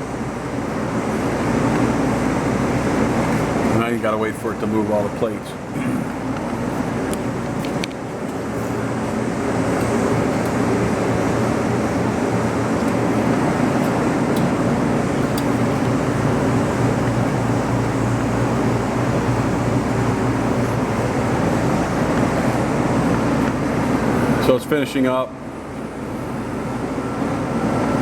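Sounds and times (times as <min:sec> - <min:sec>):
paper folding machine humming: 0:00.0 - 0:24.6.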